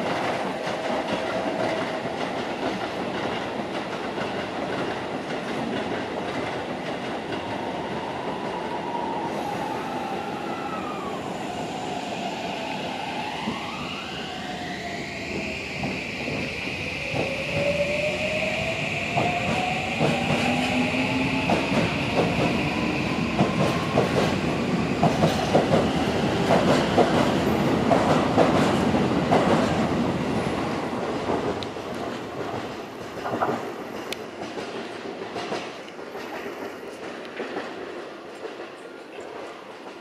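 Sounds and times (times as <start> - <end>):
distant train rumble: 0.0 - 40.0.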